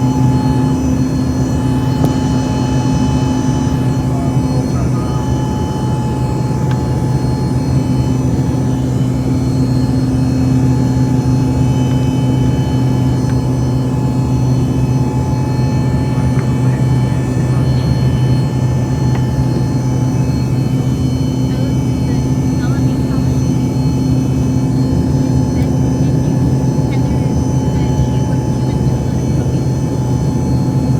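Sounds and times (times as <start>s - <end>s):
airliner engines at high power: 0.0s - 30.9s.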